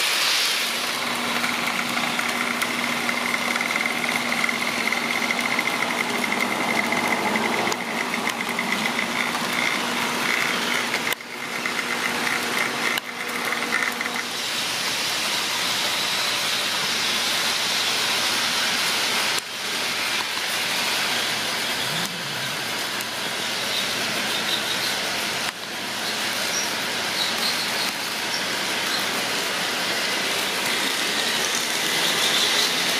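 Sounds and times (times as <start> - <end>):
model train motors humming: 0.0 - 32.9.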